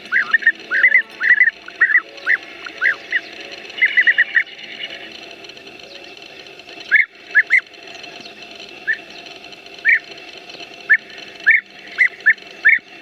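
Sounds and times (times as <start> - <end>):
bird chirping: 0.0 - 5.2, 5.8 - 12.9
steady background hum: 0.0 - 13.0.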